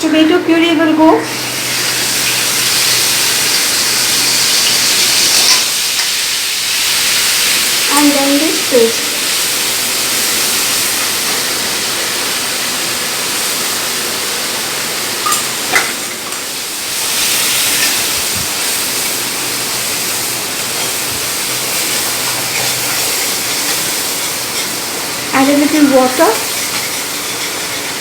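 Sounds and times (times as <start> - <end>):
paste sizzling in oil: 1.2 - 28.0.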